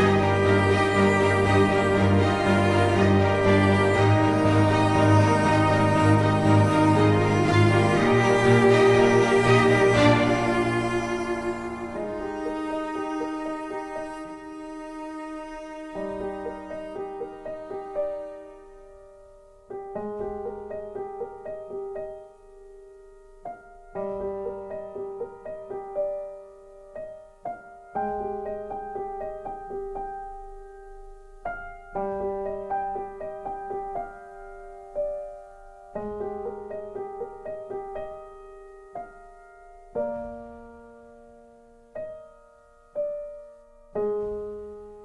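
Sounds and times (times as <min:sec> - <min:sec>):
slow calm piano music: 0:00.0 - 0:45.0.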